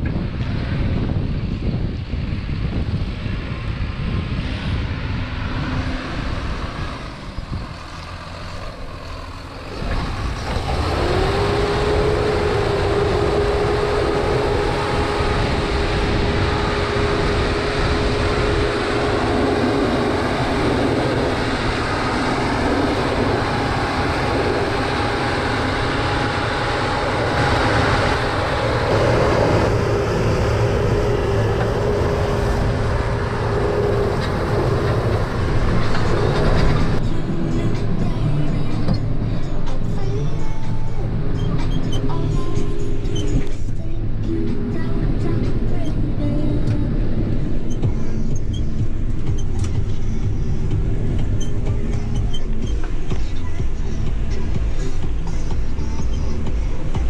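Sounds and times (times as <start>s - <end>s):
engine whine: 0.0s - 57.0s
tractor engine under load: 2.3s - 57.0s.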